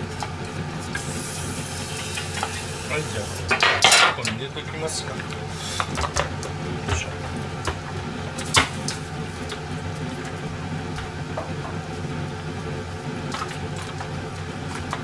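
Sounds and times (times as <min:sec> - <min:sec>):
kitchen appliance humming: 0:00.0 - 0:15.0.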